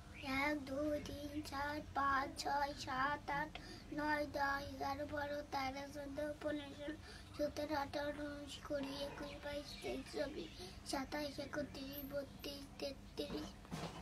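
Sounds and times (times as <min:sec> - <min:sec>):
boy reciting in sing-song chant: 0:00.0 - 0:13.7.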